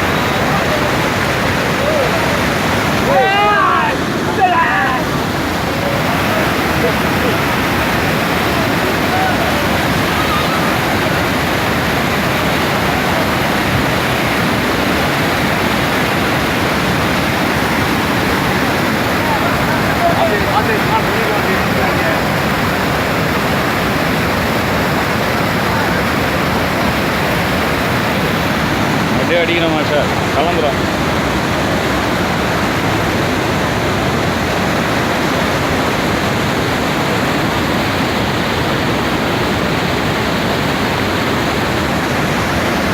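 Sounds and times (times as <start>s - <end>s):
water rushing: 0.0s - 42.9s.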